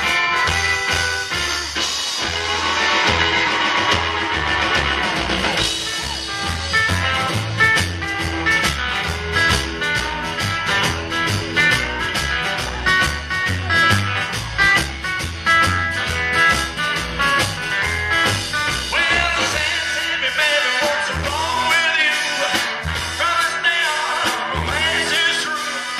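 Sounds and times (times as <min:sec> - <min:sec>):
bass and drums beat: 0:00.0 - 0:25.9
electric guitar: 0:00.0 - 0:25.9.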